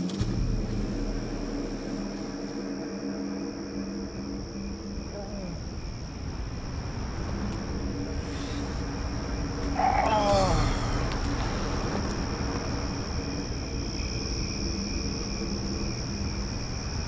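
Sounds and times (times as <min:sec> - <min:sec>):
high-pitched insect chorus: 0:00.0 - 0:17.0
low hum: 0:00.0 - 0:17.0.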